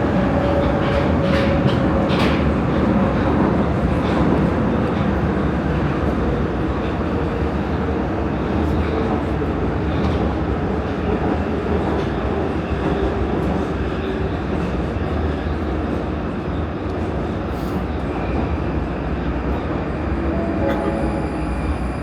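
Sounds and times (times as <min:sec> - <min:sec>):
metro train rumbling in tunnel: 0:00.0 - 0:22.0.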